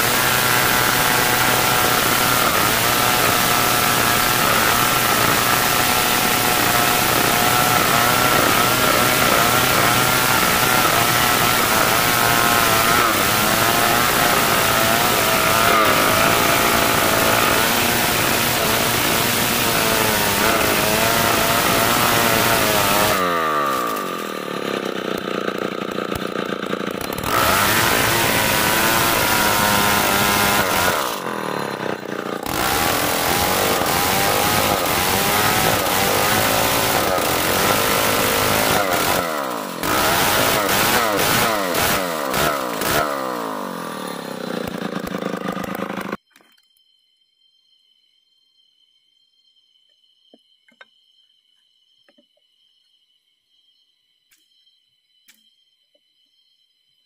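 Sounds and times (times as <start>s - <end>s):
chainsaw cutting timber: 0.0s - 46.2s
chainsaw engine revving: 0.0s - 46.2s.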